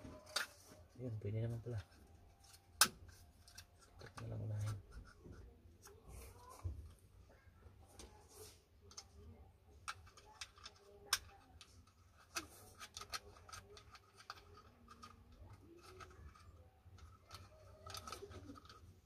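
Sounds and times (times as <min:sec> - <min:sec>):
plastic and metal parts clicking: 0:00.0 - 0:06.0, 0:08.8 - 0:19.0.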